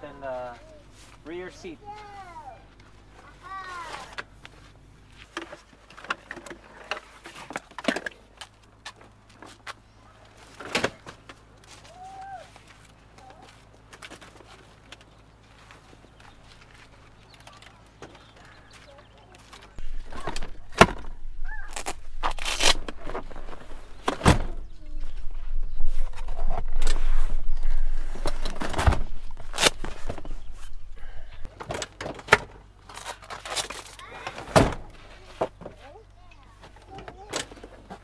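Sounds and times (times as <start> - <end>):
rustling and scraping: 0.4 - 38.0.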